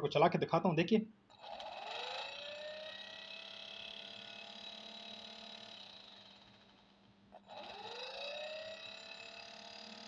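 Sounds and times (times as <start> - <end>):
small fan motor whining: 1.3 - 10.0.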